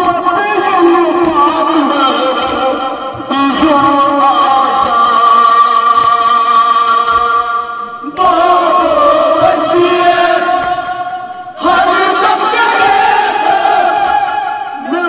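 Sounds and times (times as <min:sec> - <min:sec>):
men singing a lament: 0:00.0 - 0:15.0.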